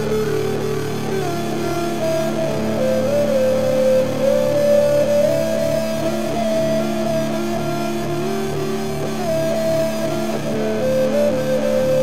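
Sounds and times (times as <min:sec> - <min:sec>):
instrumental music with guitar: 0:00.0 - 0:12.0.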